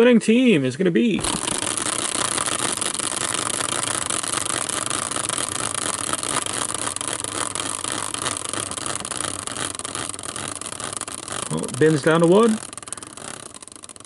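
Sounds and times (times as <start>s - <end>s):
prize wheel whirring: 1.2s - 14.0s.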